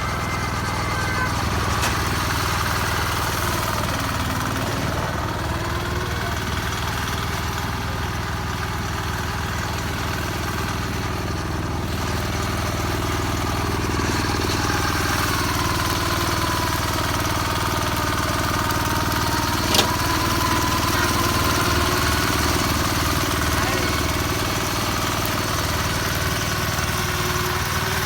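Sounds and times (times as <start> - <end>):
mower diesel engine running: 0.0 - 28.0.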